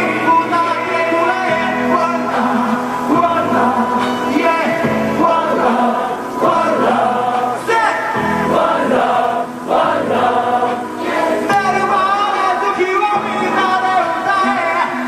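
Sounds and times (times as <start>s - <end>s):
man singing into a microphone: 0.0s - 8.3s, 10.7s - 15.0s.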